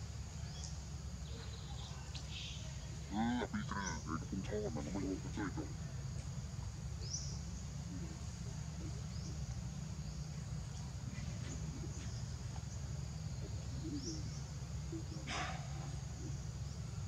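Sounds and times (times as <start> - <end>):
high insect drone: 0.0 - 17.0
bird-like chirps: 0.4 - 17.0
steady low rumble: 2.3 - 17.0.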